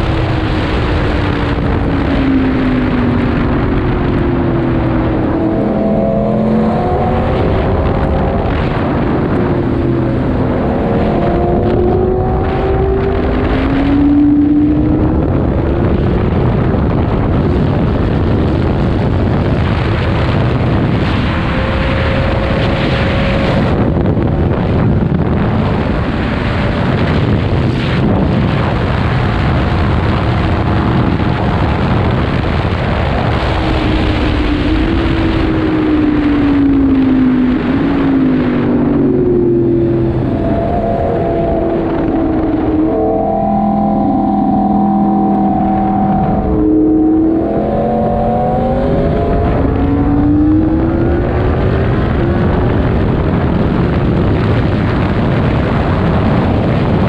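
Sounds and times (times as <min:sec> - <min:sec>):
wind rush on microphone: 0:00.0 - 0:57.0.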